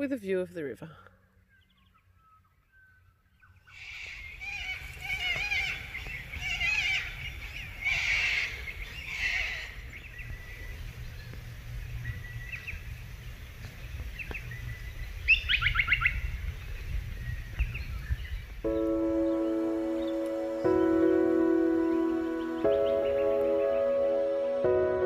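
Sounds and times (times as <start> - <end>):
birds calling: 1.2 - 25.0.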